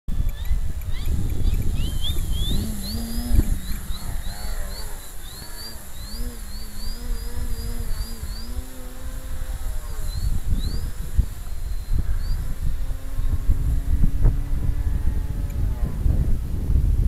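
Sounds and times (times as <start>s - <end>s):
wind buffeting microphone: 0.1s - 17.0s
model plane motor whining: 0.2s - 16.9s.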